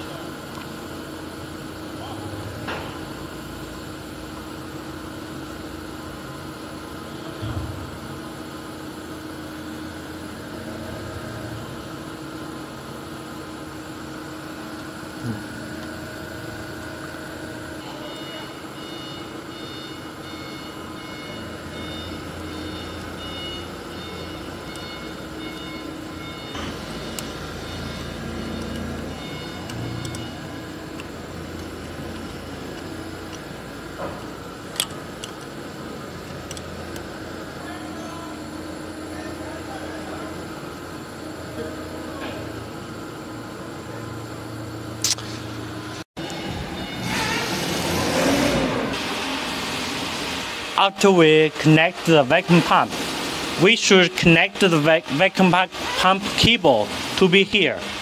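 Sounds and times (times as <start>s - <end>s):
workshop background hum: 0.0s - 58.0s.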